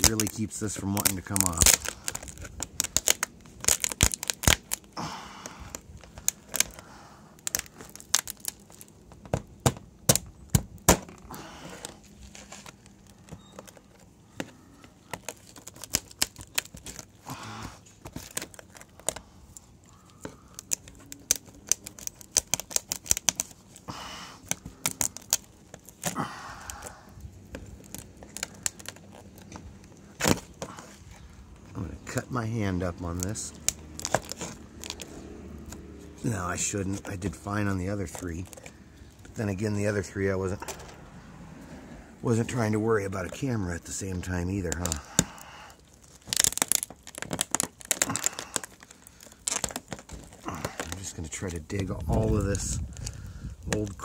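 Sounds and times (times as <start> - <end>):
plastic tearing from adhesive: 0.0 - 31.2, 32.8 - 38.8, 43.2 - 54.0
brittle plastic cracking: 0.0 - 41.0, 42.3 - 54.0.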